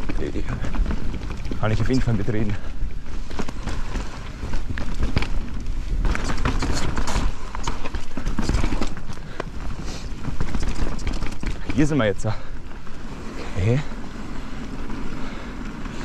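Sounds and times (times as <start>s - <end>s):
bike knocking and rattling: 0.0s - 16.0s
tyres rolling over dirt: 0.0s - 16.0s.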